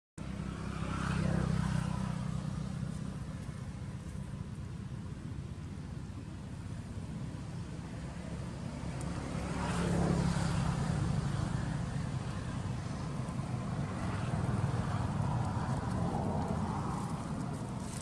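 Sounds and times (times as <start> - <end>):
vehicle engine passing by: 0.2 - 5.2, 6.5 - 18.0.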